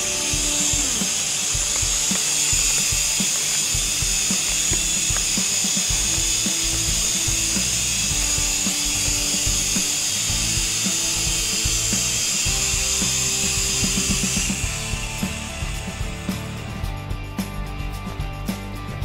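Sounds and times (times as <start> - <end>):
toy helicopter motor whine: 0.0 - 17.0
background music with beat: 0.0 - 19.0.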